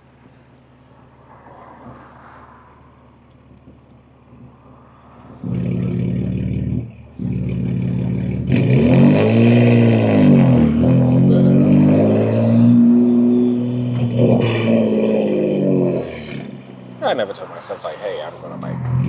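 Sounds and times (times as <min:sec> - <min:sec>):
car exhaust under acceleration: 0:00.0 - 0:19.0.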